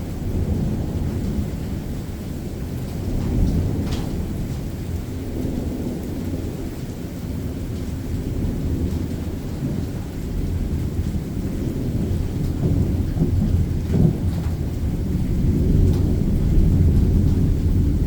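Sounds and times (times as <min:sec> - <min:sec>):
low rumble of thunder: 0:00.0 - 0:18.0
steady rain: 0:00.0 - 0:18.0.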